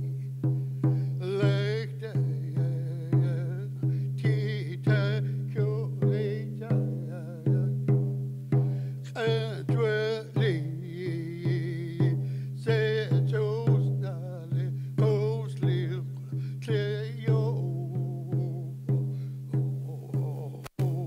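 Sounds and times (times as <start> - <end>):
person singing: 0.0 - 0.4, 1.1 - 7.9, 9.0 - 21.0
frame drum beats: 0.0 - 21.0.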